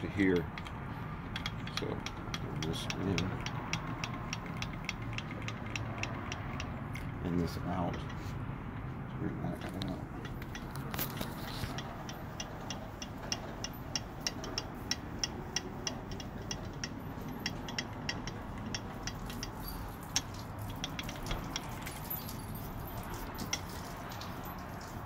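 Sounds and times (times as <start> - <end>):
sharp metallic ratchet clicks: 0.0 - 8.9, 9.5 - 25.0.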